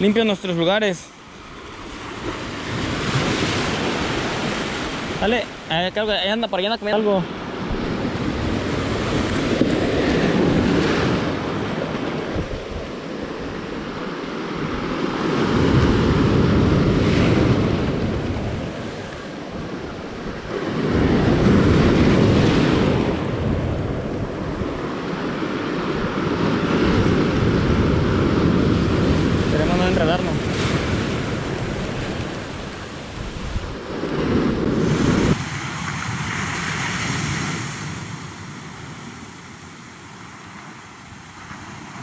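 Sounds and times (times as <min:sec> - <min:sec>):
surf washing over rocks: 0:00.0 - 0:42.0.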